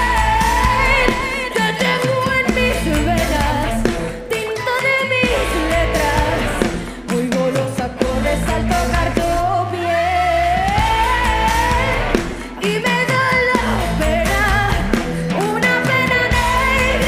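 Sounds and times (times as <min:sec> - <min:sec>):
band with drums and bass: 0:00.0 - 0:17.0
woman singing: 0:00.0 - 0:17.0.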